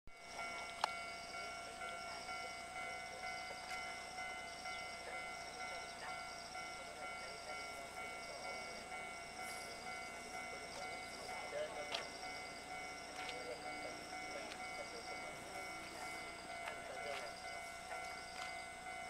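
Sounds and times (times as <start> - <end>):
level crossing alarm ringing: 0.1 - 19.0.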